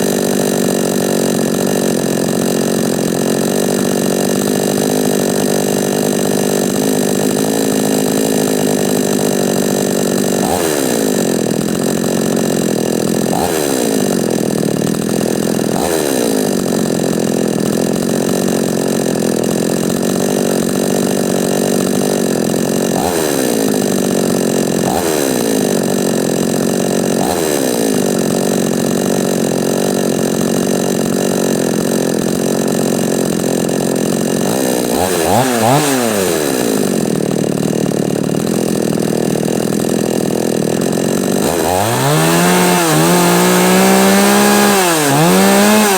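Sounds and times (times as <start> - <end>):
chainsaw idling and revving: 0.0 - 45.9.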